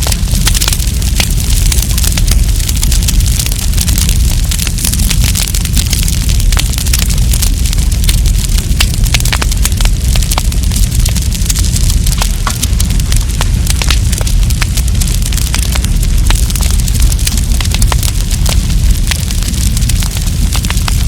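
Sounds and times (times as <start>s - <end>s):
campfire crackling and popping: 0.0s - 21.0s
low rush of fire: 0.0s - 21.0s.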